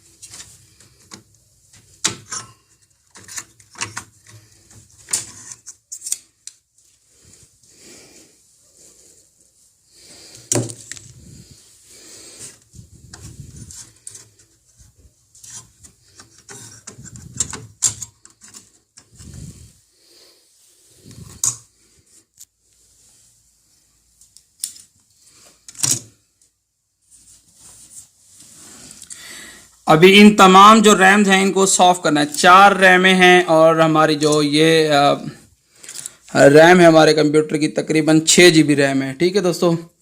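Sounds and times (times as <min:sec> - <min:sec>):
rubbing handling noise: 0:00.0 - 0:39.6.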